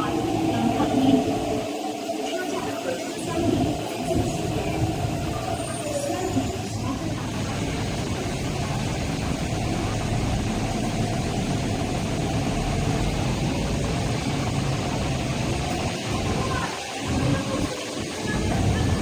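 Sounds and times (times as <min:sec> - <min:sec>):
electric trains low noise: 0:00.0 - 0:19.0.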